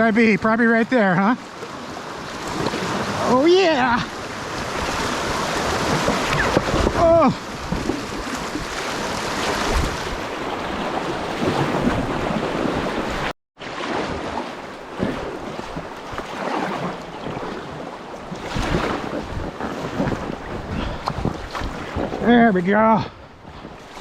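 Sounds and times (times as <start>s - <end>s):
river water rushing and splashing: 0.9s - 22.7s.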